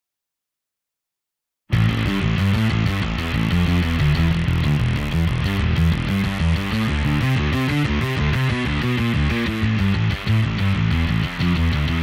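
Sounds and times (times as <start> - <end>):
rock music with electric guitar: 1.7 - 12.0.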